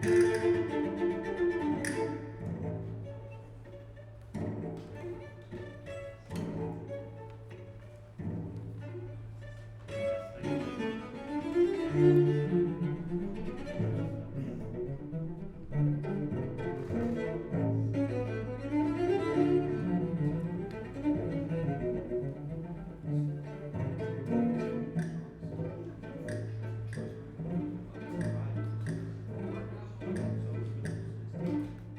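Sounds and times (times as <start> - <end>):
low bowed-string notes: 0.0 - 31.9.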